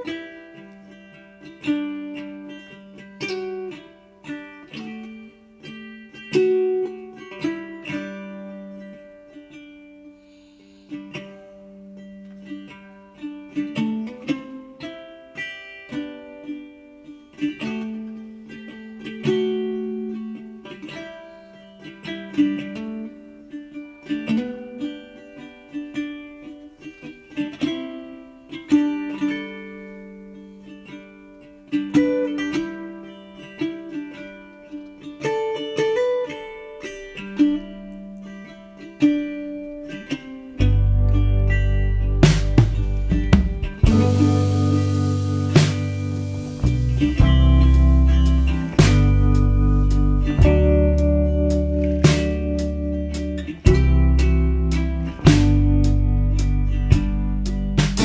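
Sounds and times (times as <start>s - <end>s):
plucked string instrumental tune: 0.0s - 58.0s.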